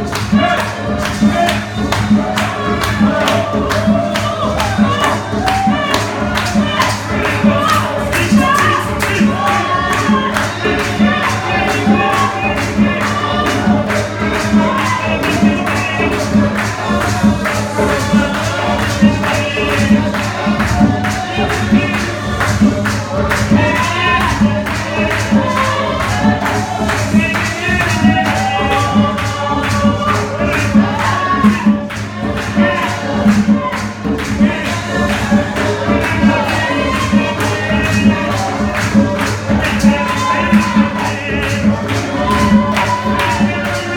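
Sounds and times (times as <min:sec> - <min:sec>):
bass line: 0:00.0 - 0:43.9
group singing gospel: 0:00.0 - 0:43.9
tambourine beat: 0:00.0 - 0:43.9.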